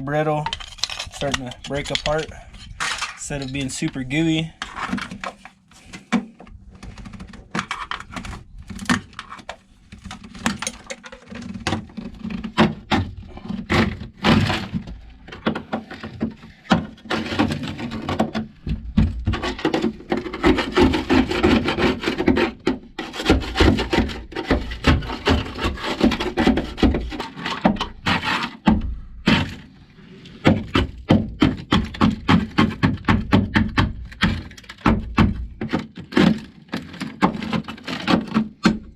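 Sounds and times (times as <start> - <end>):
scraping and chipping brittle mat: 6.8 - 38.9.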